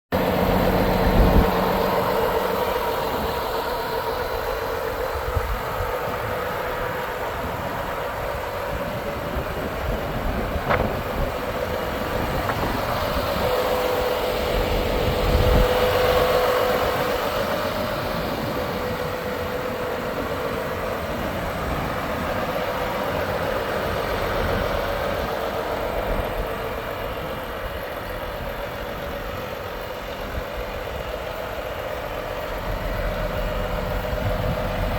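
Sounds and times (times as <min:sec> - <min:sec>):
diesel truck idling: 0:00.1 - 0:34.9.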